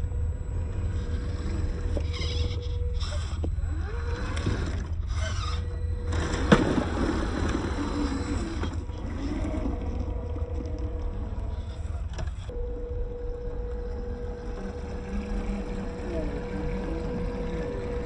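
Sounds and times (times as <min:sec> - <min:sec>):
toy car electric motor whining: 0:00.0 - 0:12.6, 0:13.8 - 0:18.0
steady low rumble: 0:00.0 - 0:18.0.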